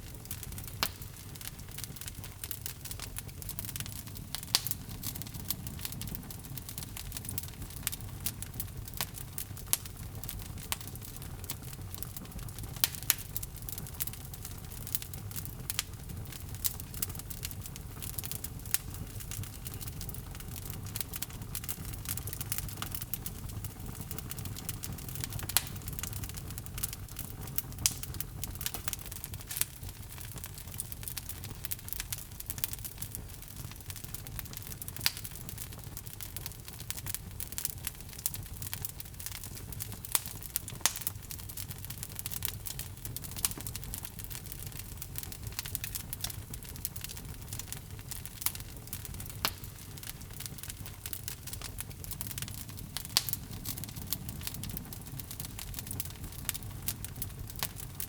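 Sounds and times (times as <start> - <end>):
fire rumbling: 0.0 - 58.0
logs crackling and popping: 0.0 - 58.0.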